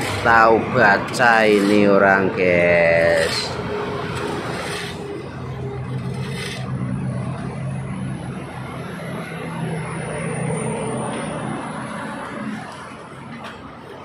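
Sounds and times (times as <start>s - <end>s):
diesel engine running: 0.0s - 13.2s.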